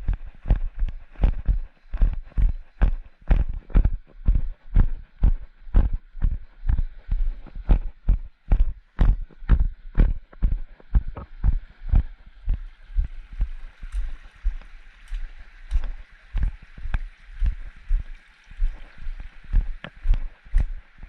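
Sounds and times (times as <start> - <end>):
footsteps walking: 0.0 - 21.0.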